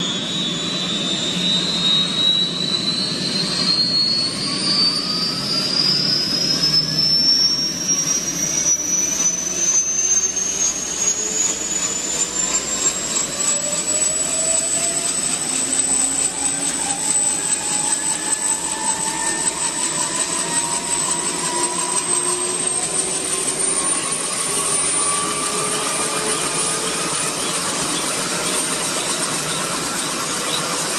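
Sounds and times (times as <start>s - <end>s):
helicopter engine and rotors: 0.0s - 30.9s
high engine whine: 0.0s - 30.9s.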